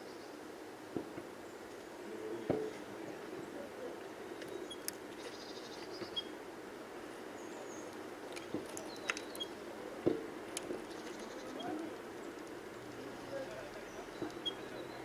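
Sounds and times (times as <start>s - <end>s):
small birds chirping: 1.2s - 6.4s, 7.0s - 15.0s.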